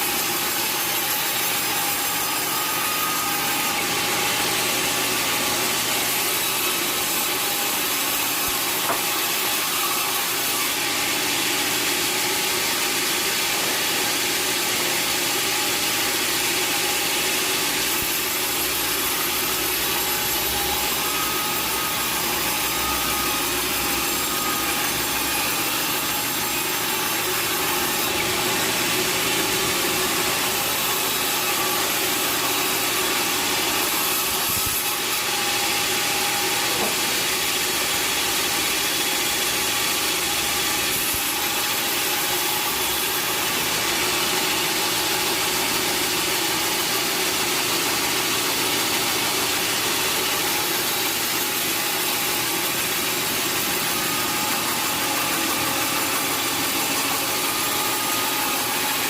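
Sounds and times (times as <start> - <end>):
sawmill saw running: 0.0 - 59.0.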